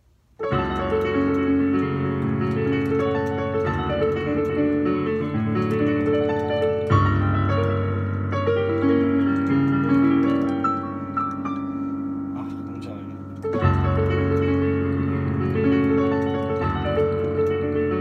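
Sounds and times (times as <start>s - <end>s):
digital piano melody: 0.0s - 18.0s
piano bass chords: 0.0s - 18.0s.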